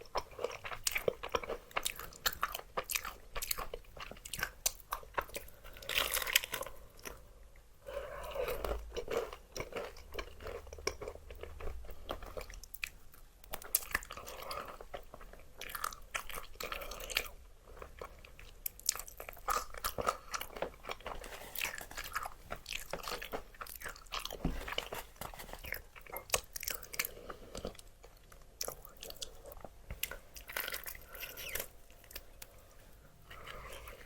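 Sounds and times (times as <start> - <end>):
crunching fried chicken: 0.0 - 7.2, 8.4 - 32.5
soft chewing: 0.0 - 34.0.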